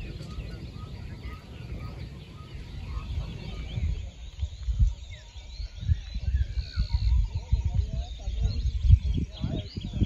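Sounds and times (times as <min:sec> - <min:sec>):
birds chirping and calling: 0:00.0 - 0:10.0
wind buffeting microphone: 0:00.0 - 0:10.0.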